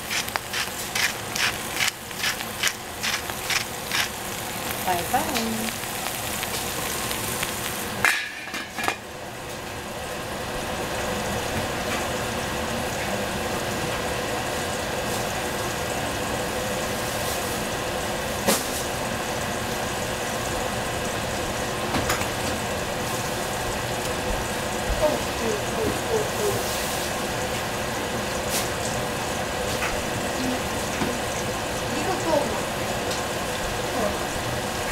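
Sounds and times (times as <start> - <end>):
vegetables sizzling in pot: 0.0 - 34.9.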